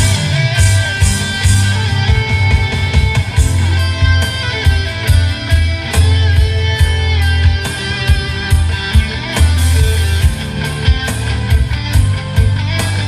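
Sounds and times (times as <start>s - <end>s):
electric guitar: 0.0s - 13.0s
heavy bass line: 0.0s - 13.0s
steady drum beat: 0.0s - 13.0s.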